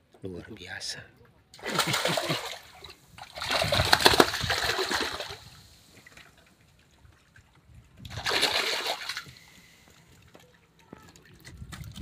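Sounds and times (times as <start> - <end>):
water splashing and sloshing: 1.5 - 12.0.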